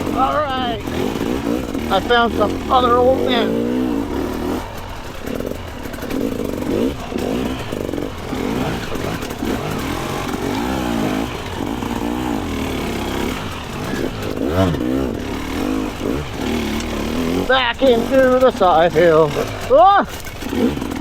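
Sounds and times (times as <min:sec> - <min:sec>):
clatter: 0:00.0 - 0:21.0
dirt bike engine revving: 0:00.0 - 0:21.0.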